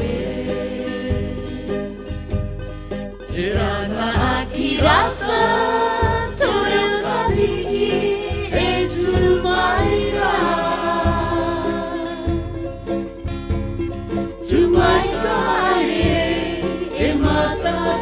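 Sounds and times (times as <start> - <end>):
voices singing a gliding melody: 0.0 - 2.3, 3.3 - 13.0, 14.4 - 18.0
steady bass line: 0.0 - 18.0.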